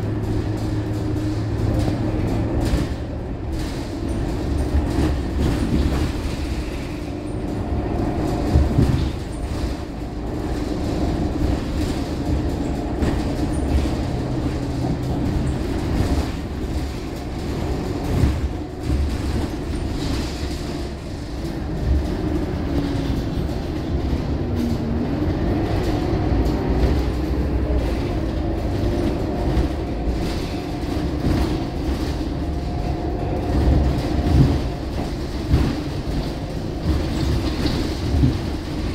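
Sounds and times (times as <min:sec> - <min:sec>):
bus engine rumble and whine: 0:00.0 - 0:38.9.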